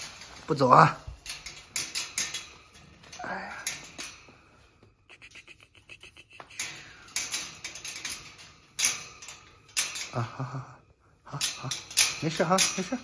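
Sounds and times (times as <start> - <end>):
puppy claws on wire bars: 0.0 - 13.0.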